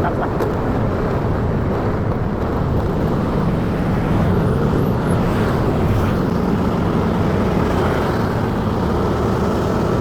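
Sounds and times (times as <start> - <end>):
road noise: 0.0 - 10.0
wind rush: 0.0 - 10.0.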